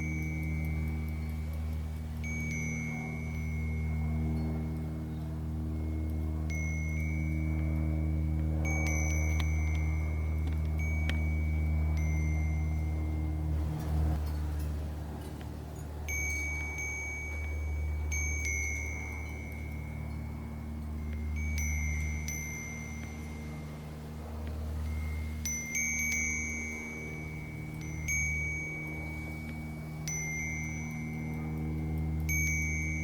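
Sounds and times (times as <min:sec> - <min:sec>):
wind chime ringing: 0:00.0 - 0:33.0.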